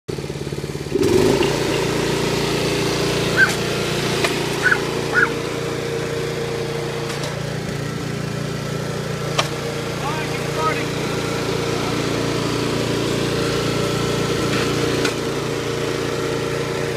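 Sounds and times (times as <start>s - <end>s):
lawn mower engine running: 0.1s - 16.9s.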